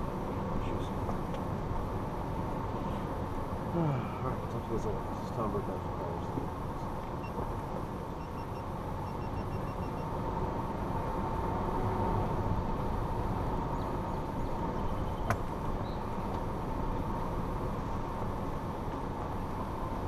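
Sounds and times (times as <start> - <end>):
car engine driving: 0.0 - 20.0.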